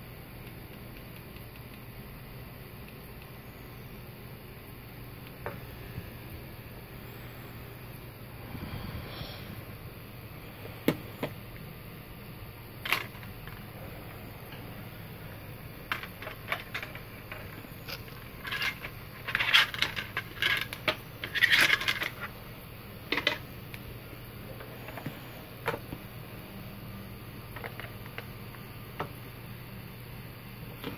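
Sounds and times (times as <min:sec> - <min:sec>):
faint low hum: 0:00.0 - 0:30.9.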